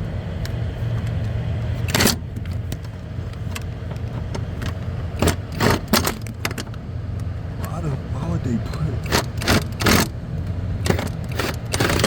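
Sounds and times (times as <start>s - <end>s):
diesel truck engine idling: 0.0s - 11.8s.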